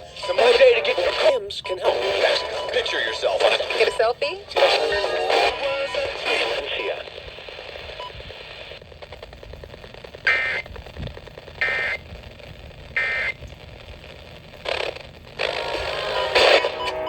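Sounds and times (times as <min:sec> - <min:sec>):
radio audio: 0:00.0 - 0:17.0
radio static and hiss: 0:00.0 - 0:17.0.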